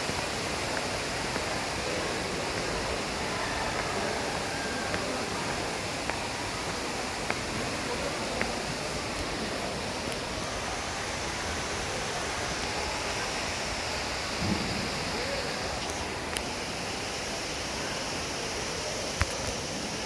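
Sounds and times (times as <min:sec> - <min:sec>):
rush of running water: 0:00.0 - 0:20.0.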